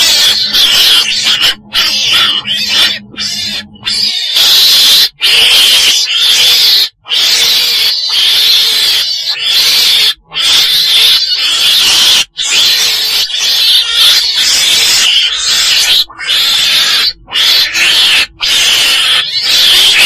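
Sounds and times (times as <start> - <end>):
weasel calling harshly: 0.0 - 20.0.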